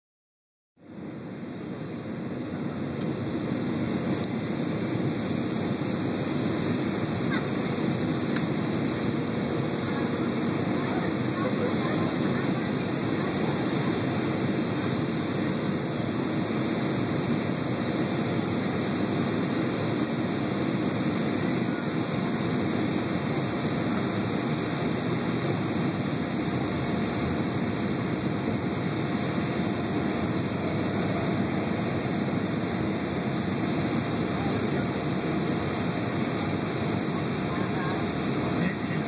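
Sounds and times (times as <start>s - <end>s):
jet airliner cabin noise: 0.9s - 39.0s.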